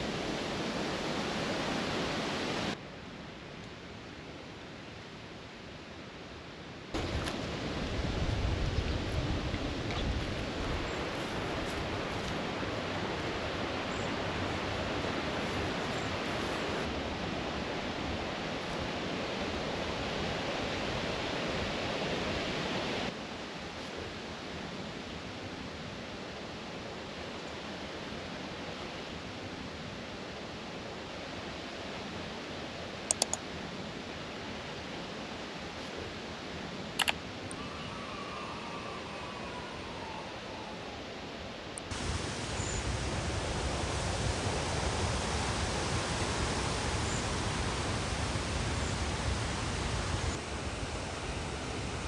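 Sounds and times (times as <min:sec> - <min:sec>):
rushing outdoor background noise: 0:00.0 - 0:52.0.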